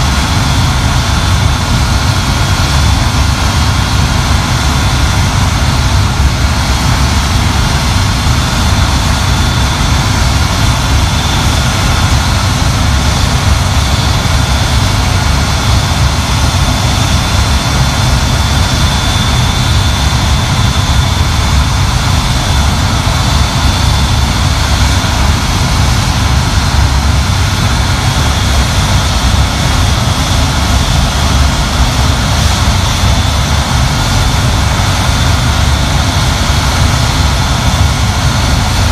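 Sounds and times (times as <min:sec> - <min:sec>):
high-pitched turbine whine: 0:00.0 - 0:38.9
jet engines roaring: 0:00.0 - 0:38.9.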